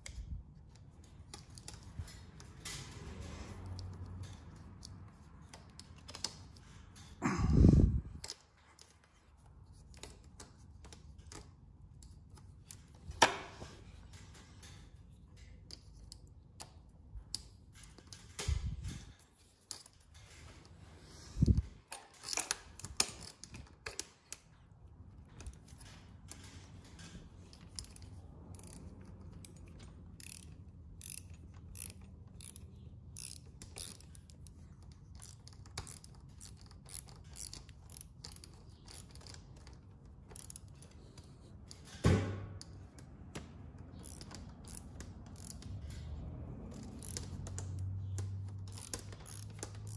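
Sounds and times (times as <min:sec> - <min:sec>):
hand ratchet clicking: 0:00.0 - 0:07.2, 0:08.1 - 0:41.9, 0:42.6 - 0:49.9.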